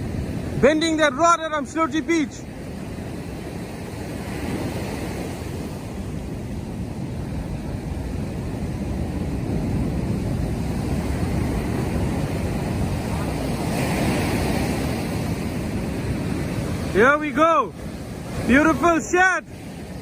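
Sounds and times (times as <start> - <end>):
ocean surf on beach: 0.0 - 20.0
wind rumbling on microphone: 0.0 - 20.0.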